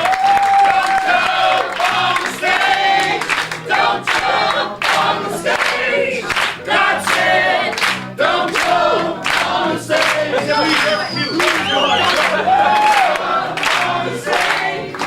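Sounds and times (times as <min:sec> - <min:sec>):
choir singing gospel: 0:00.0 - 0:15.0
piano accompaniment: 0:01.5 - 0:15.0.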